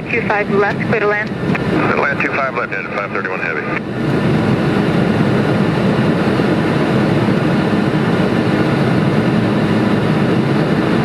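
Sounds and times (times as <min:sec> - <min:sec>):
jet engines rumbling in cockpit: 0:00.0 - 0:11.0.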